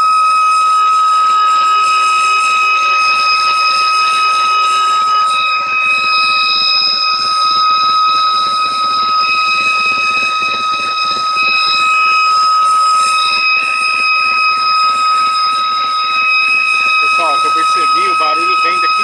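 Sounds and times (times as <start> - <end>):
high whistling whine: 0.0 - 19.0.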